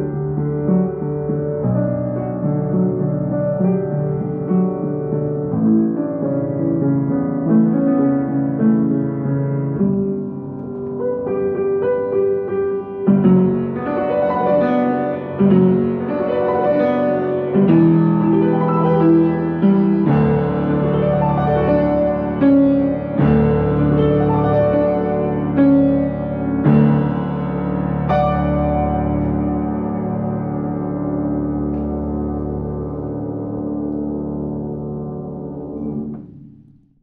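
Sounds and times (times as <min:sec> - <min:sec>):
slow piano chords: 0:00.0 - 0:37.0.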